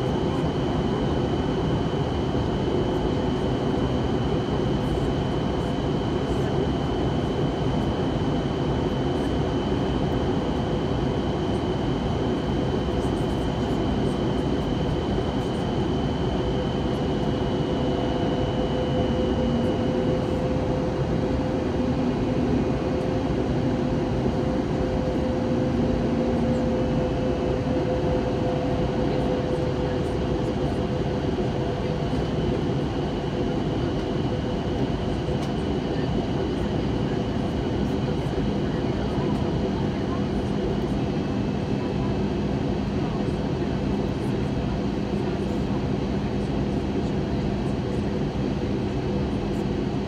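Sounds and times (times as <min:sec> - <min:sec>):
airplane cabin air rush and engine hum: 0:00.0 - 0:50.0.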